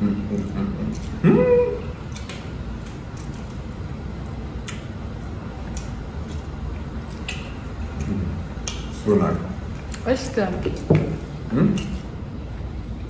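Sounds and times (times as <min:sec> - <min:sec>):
low room hum: 0:00.0 - 0:13.0
eating clicks and smacks: 0:00.1 - 0:12.2.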